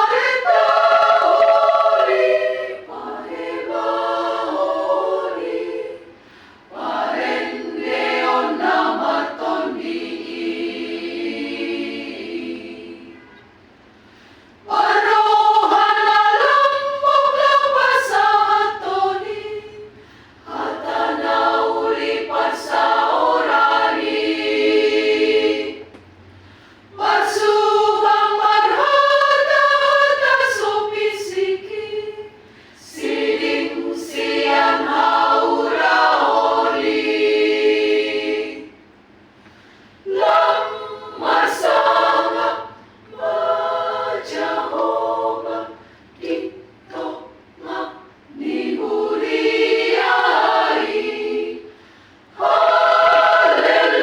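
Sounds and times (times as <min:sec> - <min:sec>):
choir singing: 0:00.0 - 0:13.4, 0:14.6 - 0:26.0, 0:26.9 - 0:39.0, 0:40.0 - 0:54.0.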